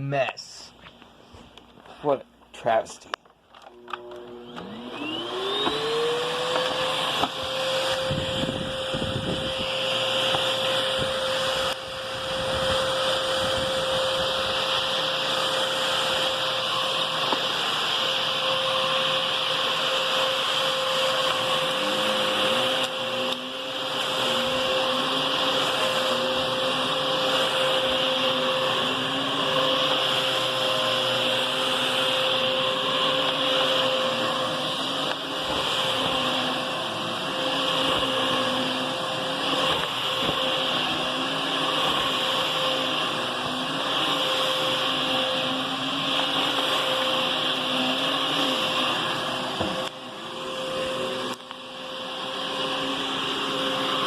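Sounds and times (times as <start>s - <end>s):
vacuum cleaner running: 3.2s - 54.0s.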